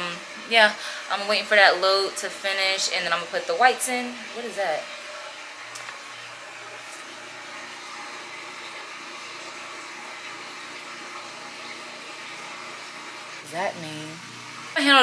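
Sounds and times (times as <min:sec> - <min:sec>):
household machine whirring: 0:00.0 - 0:15.0.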